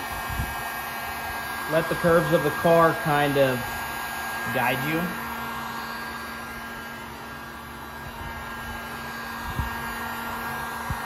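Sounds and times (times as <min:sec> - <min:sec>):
heat gun fan blowing: 0:00.0 - 0:11.0.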